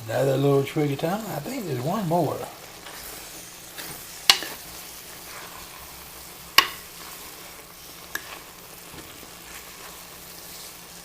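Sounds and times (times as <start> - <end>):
onions sizzling in a pot: 0.0 - 11.0.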